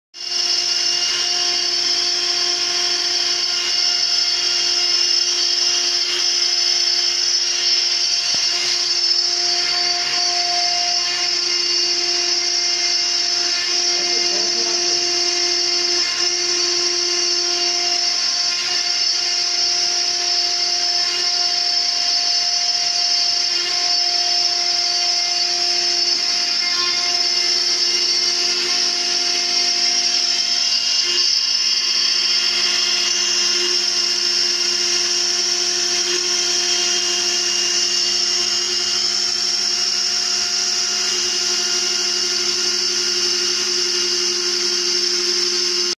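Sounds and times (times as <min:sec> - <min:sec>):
router spindle motor whine: 0:00.2 - 0:45.9.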